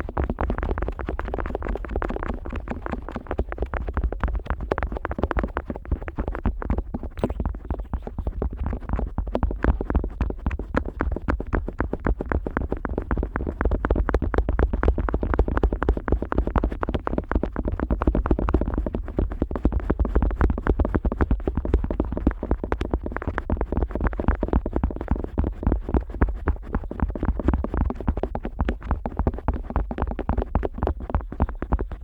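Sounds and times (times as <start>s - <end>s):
rubbing and thuds on microphone ear: 0.0s - 32.0s.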